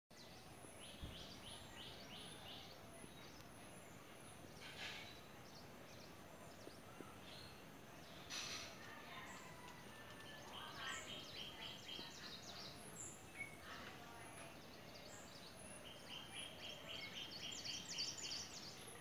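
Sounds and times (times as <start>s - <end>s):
birds calling: 0.2s - 19.0s
faint hiss: 0.2s - 19.0s.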